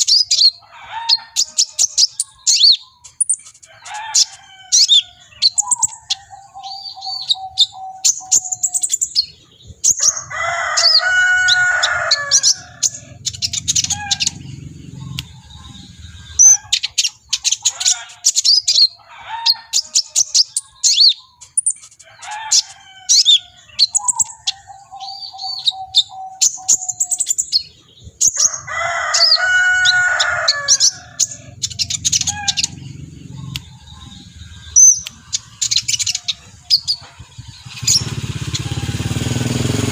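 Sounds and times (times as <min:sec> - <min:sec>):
bird chirps and trills: 0:00.0 - 0:39.9
lower bird call: 0:04.0 - 0:19.6, 0:22.3 - 0:39.9.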